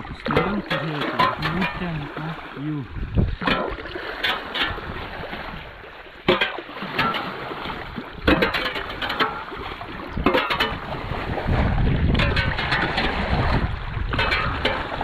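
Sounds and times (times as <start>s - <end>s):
gurgling splashes: 0.0s - 15.0s
water rushing down whirlpool: 0.0s - 15.0s.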